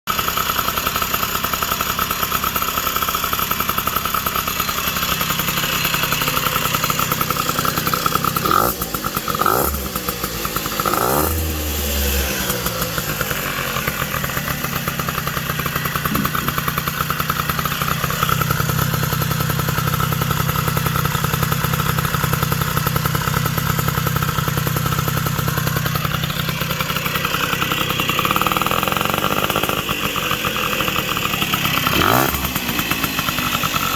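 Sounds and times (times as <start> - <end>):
moped two-stroke engine running: 0.1 - 33.9.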